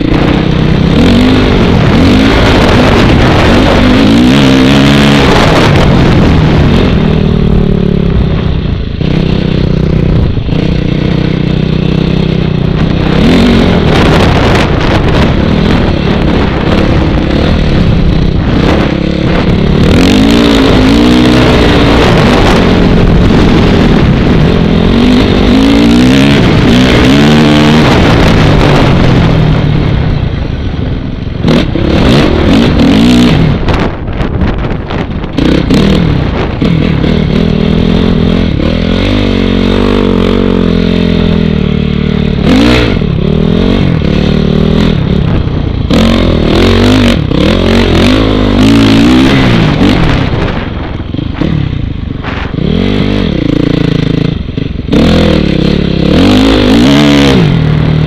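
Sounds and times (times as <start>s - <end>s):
dirt bike engine revving: 0.0s - 30.5s, 31.2s - 58.0s
wind buffeting microphone: 0.0s - 58.0s.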